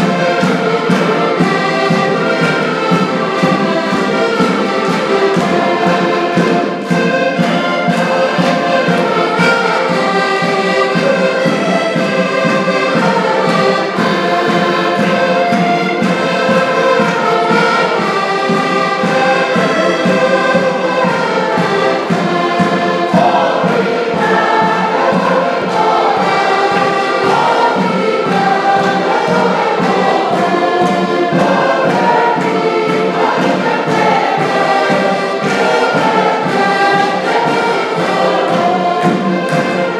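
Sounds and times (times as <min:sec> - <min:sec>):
button accordions playing folk music: 0:00.0 - 0:39.9
group of voices singing: 0:00.0 - 0:39.9.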